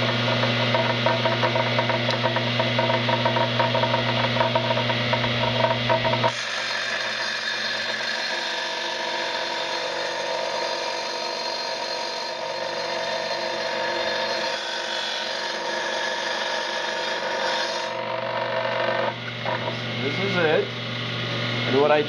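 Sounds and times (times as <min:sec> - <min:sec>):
power saw cutting tile: 0:00.0 - 0:22.0.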